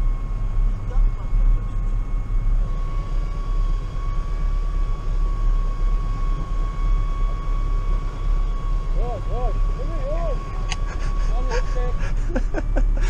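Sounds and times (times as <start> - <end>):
steady high whine: 0.0 - 13.0
tractor diesel engine running: 0.0 - 13.0.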